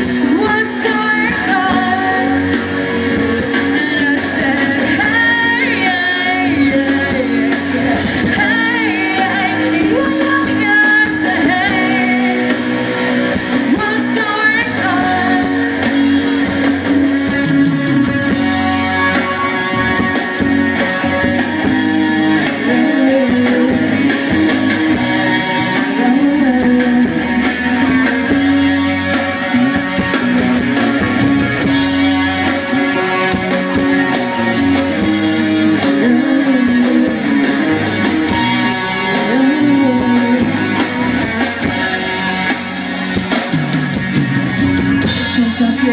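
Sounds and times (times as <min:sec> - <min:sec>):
person singing: 0:00.0 - 0:17.4, 0:18.0 - 0:30.7, 0:32.0 - 0:42.7, 0:45.0 - 0:45.9
drum kit: 0:00.0 - 0:45.9
electric guitars: 0:00.0 - 0:45.9.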